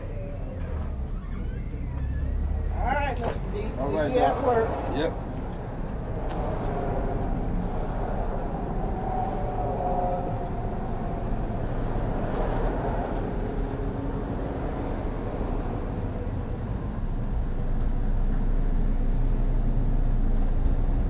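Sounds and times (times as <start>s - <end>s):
low background rumble: 0.0s - 21.0s.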